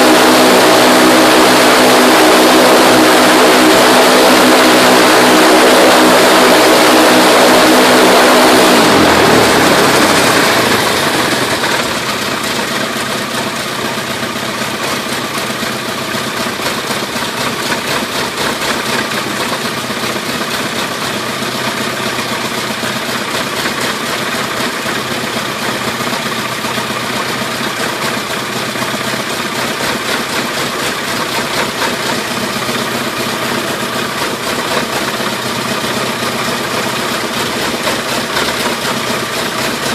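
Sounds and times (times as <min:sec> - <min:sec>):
aircraft engine running: 0:00.0 - 0:39.9.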